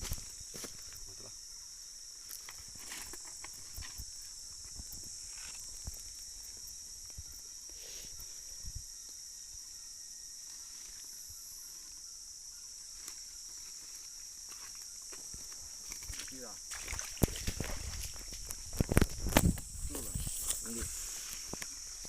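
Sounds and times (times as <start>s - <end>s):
shrill insect chorus: 0.0s - 22.0s.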